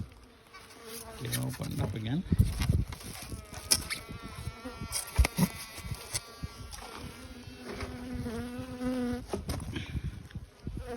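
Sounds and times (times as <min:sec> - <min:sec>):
honeybees buzzing: 0:00.1 - 0:09.8.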